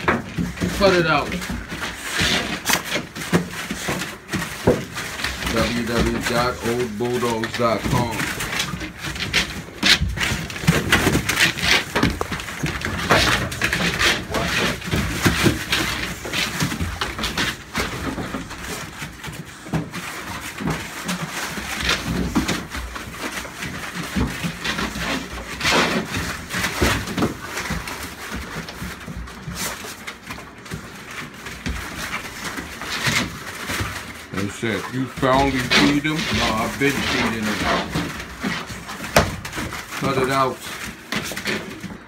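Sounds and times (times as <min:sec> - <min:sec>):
dogs breathing and sniffing: 0:00.0 - 0:42.0.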